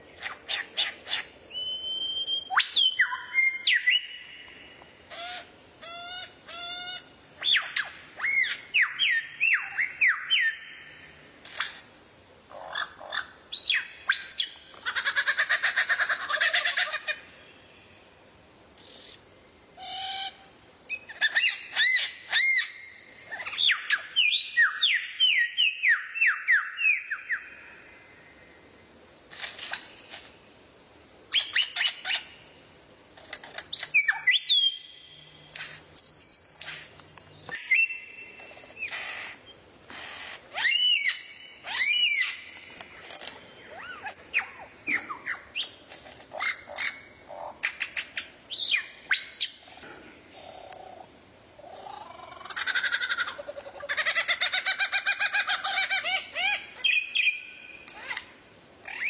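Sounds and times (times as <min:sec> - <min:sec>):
songbird singing: 0:00.0 - 0:39.7, 0:40.5 - 0:59.0.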